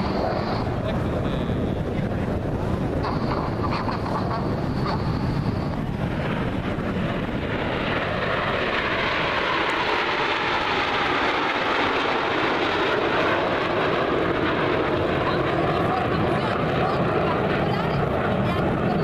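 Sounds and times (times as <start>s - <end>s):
jet engine rushing overhead: 0.0s - 19.0s.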